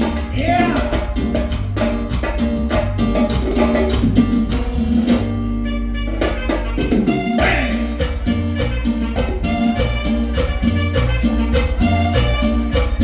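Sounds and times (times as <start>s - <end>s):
cumbia music with bass and drums: 0.0s - 13.0s.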